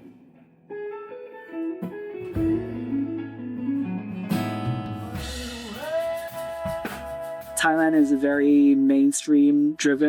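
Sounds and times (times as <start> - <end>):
plucked and strummed guitar: 0.0 - 10.0.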